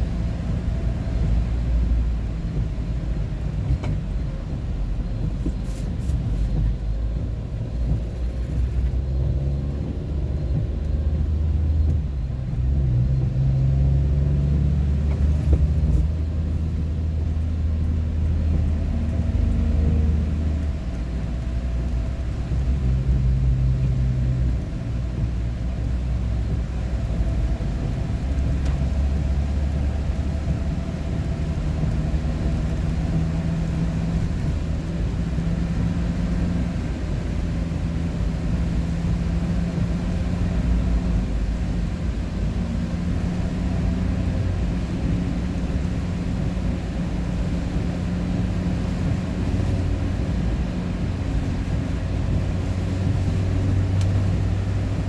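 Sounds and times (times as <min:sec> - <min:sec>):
vehicle engine and road drone: 0:00.0 - 0:55.0.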